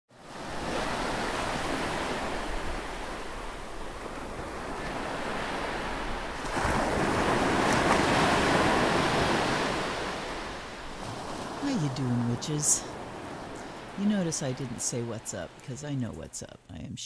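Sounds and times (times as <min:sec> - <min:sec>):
ocean waves washing on shore: 0:00.1 - 0:16.7.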